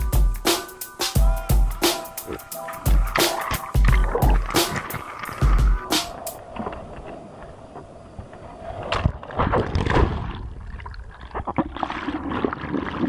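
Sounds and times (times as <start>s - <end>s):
water lapping and splashing: 2.0s - 13.0s.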